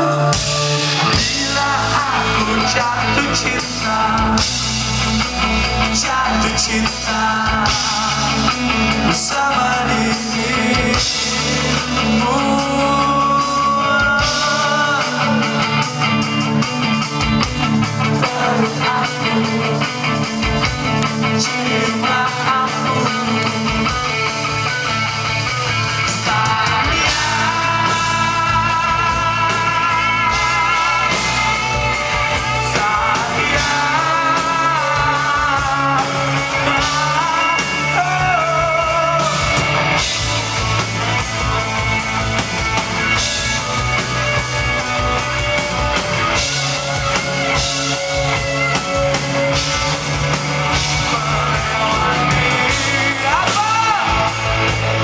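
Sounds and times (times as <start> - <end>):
man singing: 0.0 - 41.7, 44.9 - 55.0
rock band playing loud: 0.0 - 55.0.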